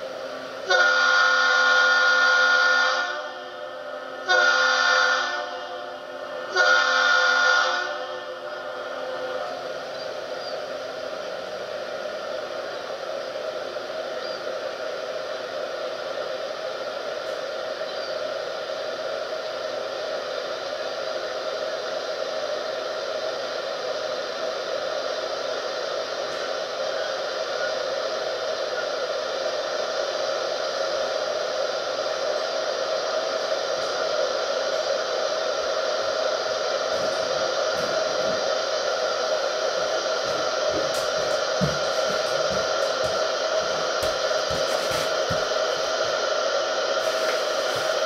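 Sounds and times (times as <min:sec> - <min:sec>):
fan-like whooshing noise: 0:08.2 - 0:48.0.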